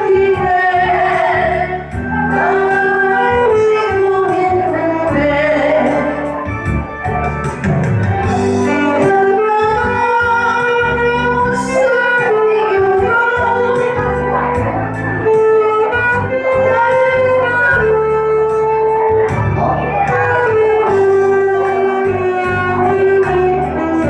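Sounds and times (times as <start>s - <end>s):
bass: 0.0s - 24.0s
saxophone melody: 0.0s - 24.0s.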